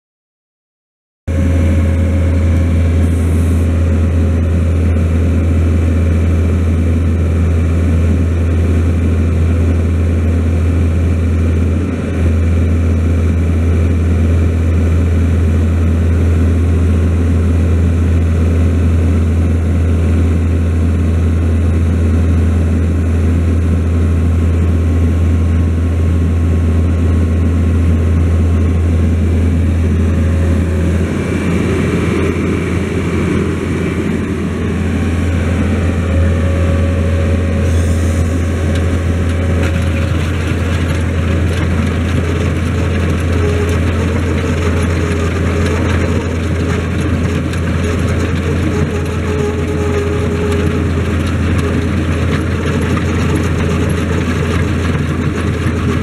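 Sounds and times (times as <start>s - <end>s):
loader engine droning: 1.3s - 56.0s.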